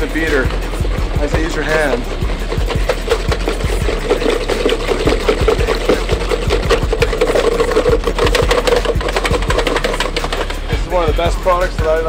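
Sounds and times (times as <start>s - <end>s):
hand mixing in a bowl: 0.0s - 12.0s.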